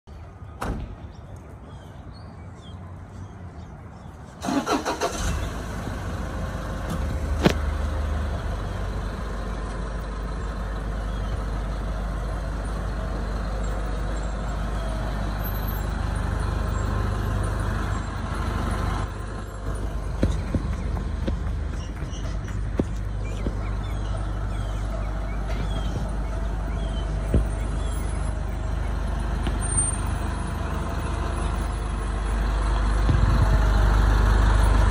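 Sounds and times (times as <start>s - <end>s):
truck engine cranking and idling: 3.9s - 34.9s.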